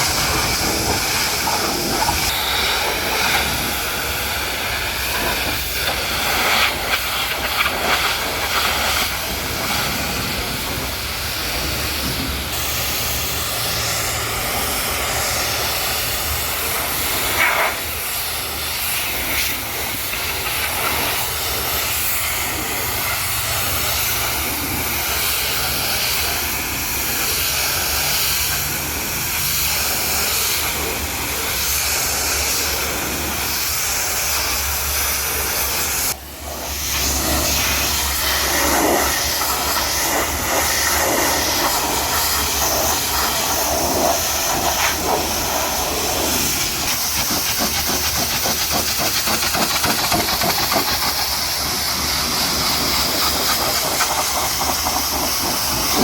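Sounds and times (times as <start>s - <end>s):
high-pressure water jet spraying: 0.0s - 56.0s.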